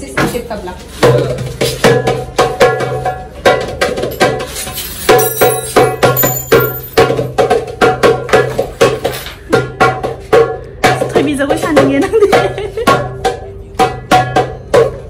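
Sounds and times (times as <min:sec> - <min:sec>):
goblet drum played by hand: 0:01.0 - 0:15.0.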